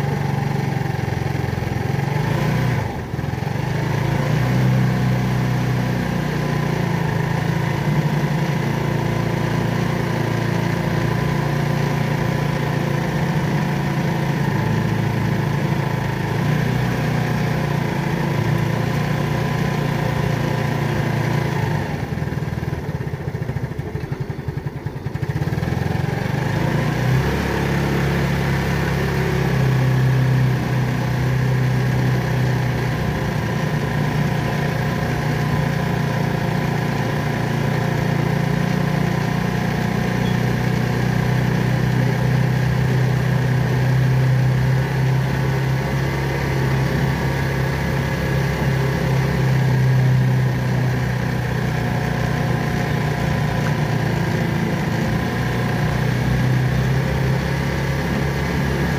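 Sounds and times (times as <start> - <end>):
small motorcycle engine running: 0.0 - 58.9.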